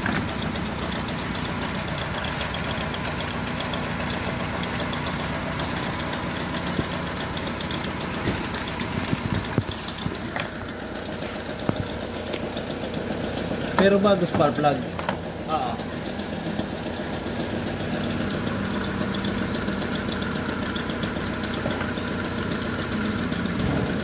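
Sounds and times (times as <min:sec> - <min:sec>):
car engine idling with a knock: 0:00.0 - 0:24.0.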